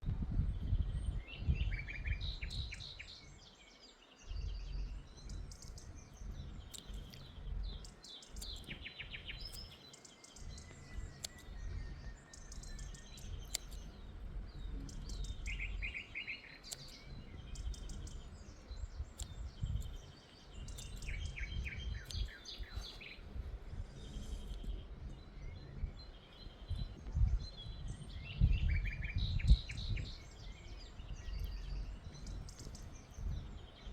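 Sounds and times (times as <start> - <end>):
small birds chirping: 0.0 - 33.9
low uneven rumble: 4.2 - 33.9.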